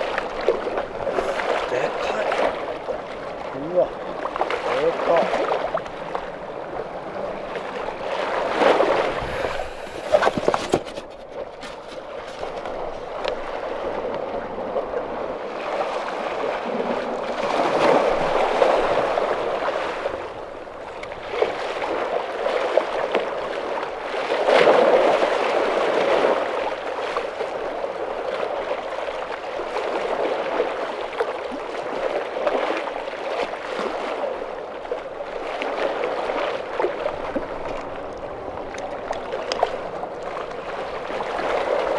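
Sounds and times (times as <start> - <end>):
waves lapping against rocks: 0.0 - 41.9.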